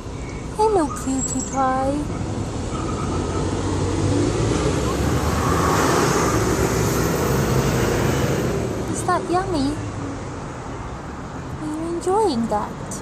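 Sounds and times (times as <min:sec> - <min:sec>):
vehicle passing with tyre noise: 0:00.0 - 0:13.0.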